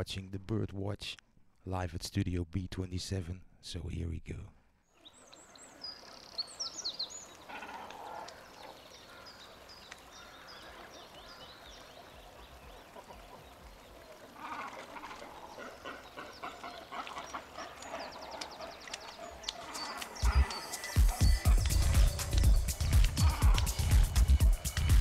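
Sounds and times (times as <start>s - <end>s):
birds chirping faintly: 4.7s - 25.0s.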